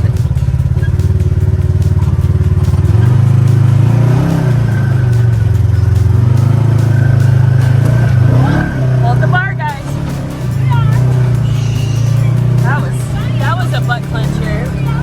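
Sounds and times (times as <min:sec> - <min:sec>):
off-road vehicle engine droning: 0:00.0 - 0:15.0.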